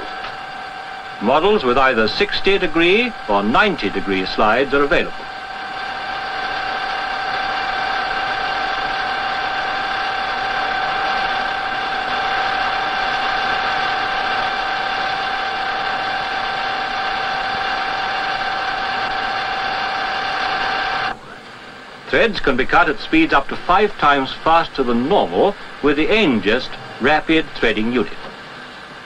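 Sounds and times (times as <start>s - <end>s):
lathe machine whine: 0.0s - 29.0s.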